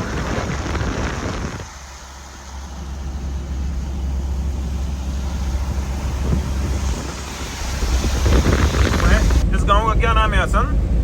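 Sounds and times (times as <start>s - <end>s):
engine and tyres rumbling: 0.0s - 11.0s
road noise: 0.0s - 11.0s.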